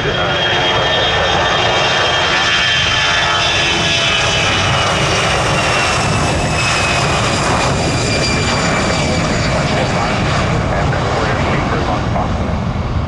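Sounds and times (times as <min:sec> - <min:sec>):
jet engines with high whine: 0:00.0 - 0:13.0.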